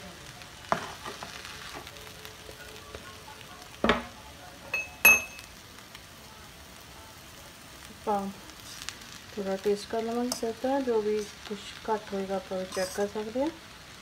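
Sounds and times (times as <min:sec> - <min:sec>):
food frying softly in a pan: 0:00.0 - 0:14.0.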